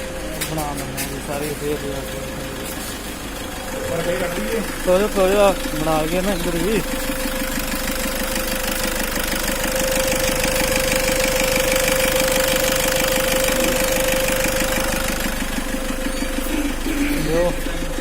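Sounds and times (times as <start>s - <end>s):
car engine idling: 0.0s - 18.0s
steady whine: 0.0s - 18.0s.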